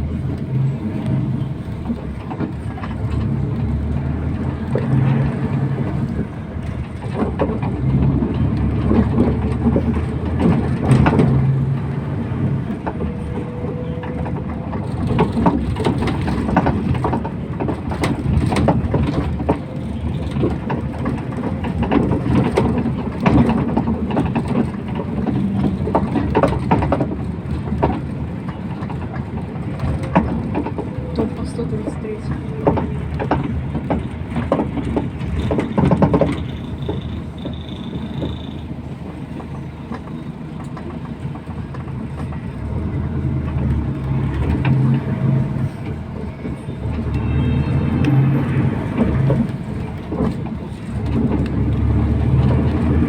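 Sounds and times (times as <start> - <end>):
body rattles and knocks: 0.0 - 53.0
bus engine running: 0.0 - 53.0.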